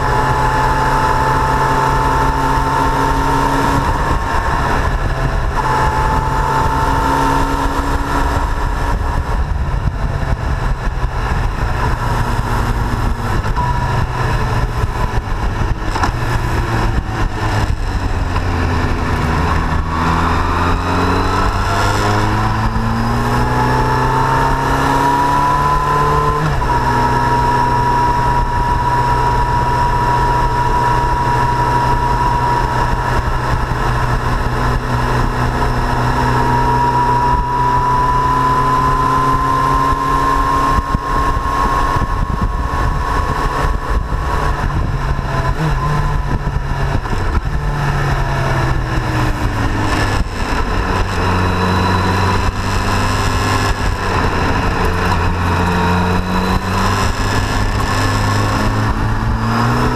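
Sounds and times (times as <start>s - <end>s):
motorcycle engine running: 0.0s - 59.9s
wind rush: 0.0s - 59.9s.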